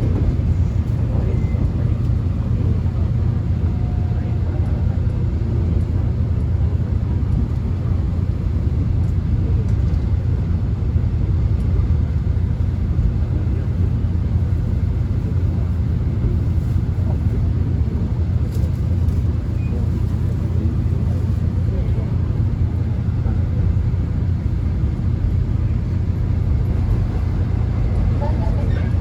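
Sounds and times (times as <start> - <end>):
subway train rumbling: 0.0 - 29.0.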